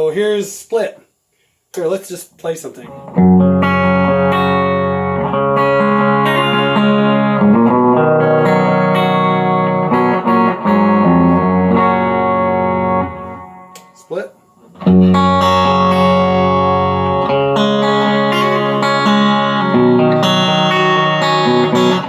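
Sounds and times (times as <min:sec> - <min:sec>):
electric guitar ringing chords: 0:02.9 - 0:14.0, 0:14.7 - 0:22.0.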